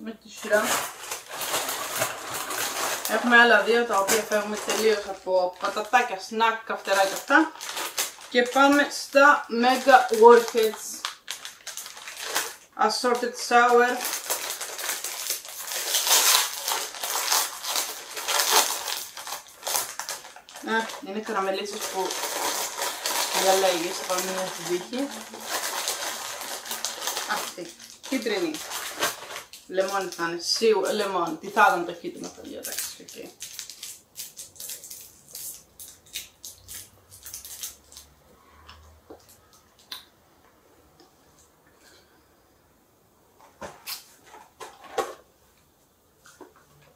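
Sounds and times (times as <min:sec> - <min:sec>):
plastic candy packaging crinkling: 0:00.2 - 0:40.1.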